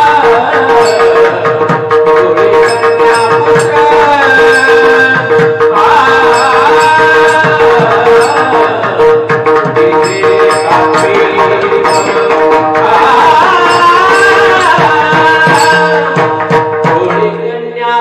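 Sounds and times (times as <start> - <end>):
hand drum playing: 0.0 - 17.4
person singing: 0.0 - 18.0
held drone note: 0.4 - 16.6.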